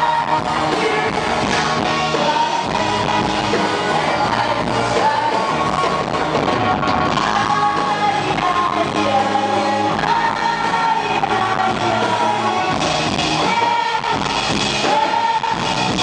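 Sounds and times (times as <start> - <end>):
person singing long held notes: 0.0 - 15.9
electric guitar: 0.0 - 16.0
rock band playing live: 0.0 - 16.0.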